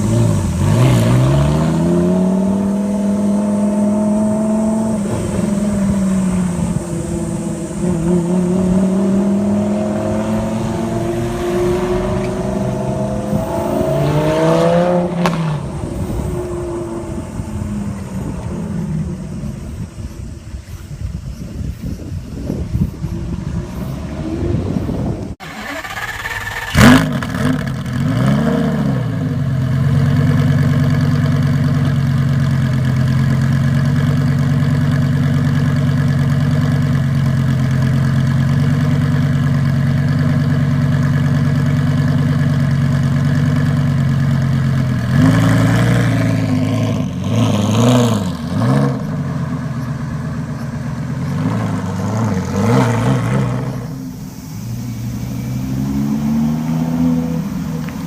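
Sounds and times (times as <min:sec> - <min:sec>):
car engine revving: 0:00.0 - 0:20.8, 0:22.3 - 0:58.0
car engine idling: 0:00.0 - 0:28.2, 0:28.9 - 0:58.0
sports car engine starting: 0:00.0 - 0:58.0.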